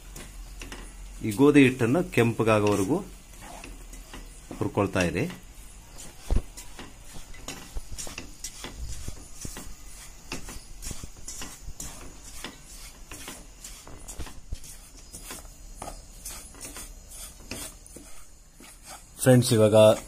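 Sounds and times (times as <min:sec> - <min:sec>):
spatula scraping flour in pan: 0:00.0 - 0:20.0.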